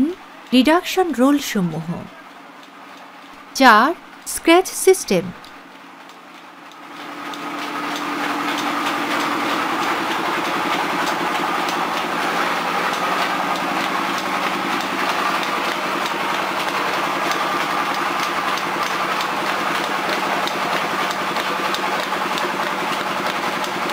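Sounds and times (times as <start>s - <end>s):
mill machinery humming and clattering: 0.0s - 23.9s.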